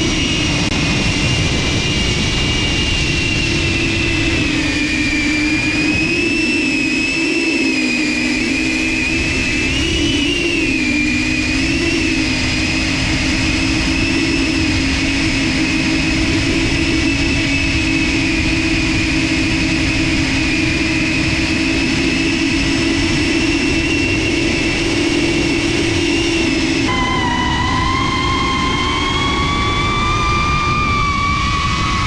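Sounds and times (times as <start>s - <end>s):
drone propellers whining: 0.0s - 32.0s.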